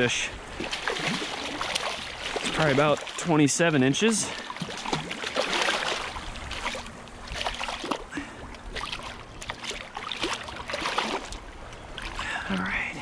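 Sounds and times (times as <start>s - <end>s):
fish thrashing in shallow water: 0.5s - 3.4s, 4.2s - 12.2s.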